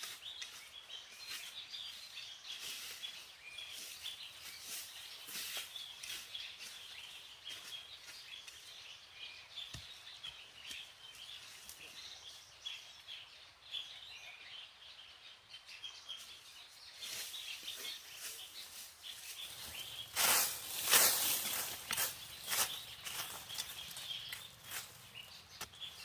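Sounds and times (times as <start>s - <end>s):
rustle and crunch of vegetation: 0.0s - 26.0s
small birds chirping: 0.0s - 26.0s.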